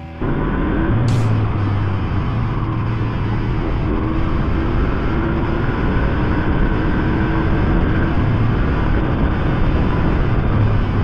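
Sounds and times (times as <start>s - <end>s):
wind rush on microphone: 1.6s - 11.0s.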